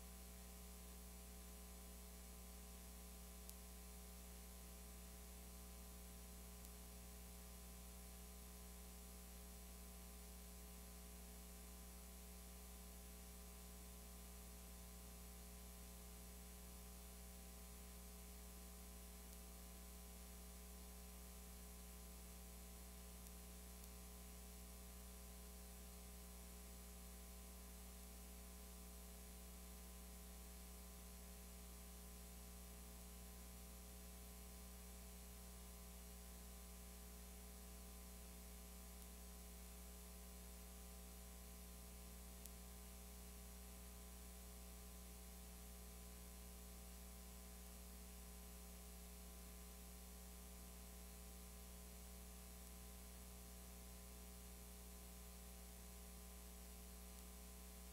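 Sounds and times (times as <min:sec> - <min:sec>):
faint hiss: 0:00.0 - 0:57.9
low electrical hum: 0:00.0 - 0:57.9.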